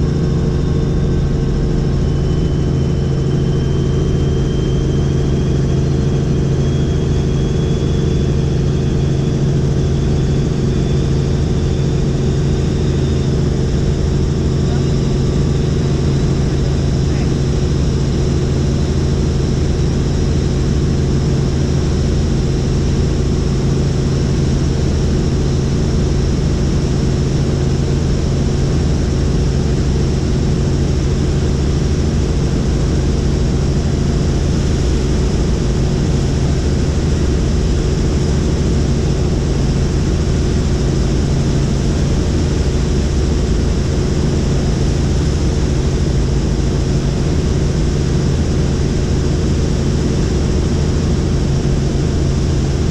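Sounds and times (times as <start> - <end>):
faint high whine: 0.0 - 52.9
helicopter rotor and engine noise: 0.0 - 52.9.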